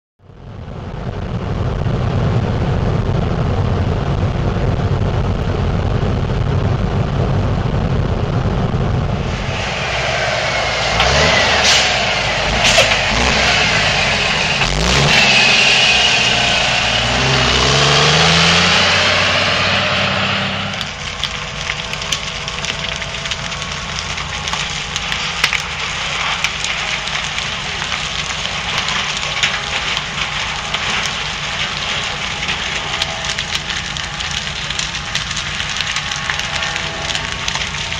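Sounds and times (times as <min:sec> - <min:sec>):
fire truck engine and siren: 0:00.2 - 0:37.9
vehicle rumbling: 0:00.2 - 0:37.9
fire crackling and snapping: 0:00.3 - 0:37.9.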